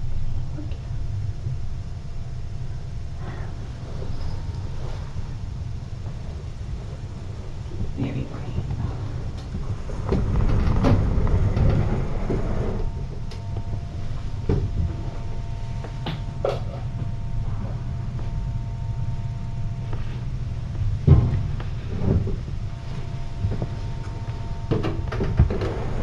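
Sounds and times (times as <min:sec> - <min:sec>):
low room rumble: 0:00.0 - 0:26.0.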